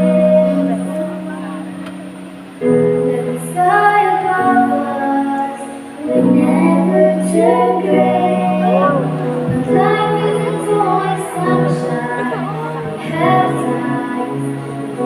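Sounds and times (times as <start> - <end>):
young female voices singing: 0.0 - 1.8, 2.6 - 15.0.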